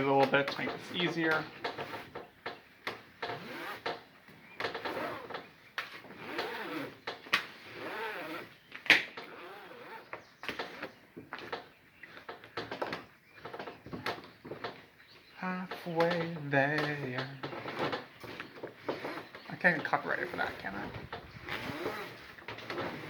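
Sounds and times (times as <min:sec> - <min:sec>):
strap rasping and sliding: 0:00.0 - 0:23.0.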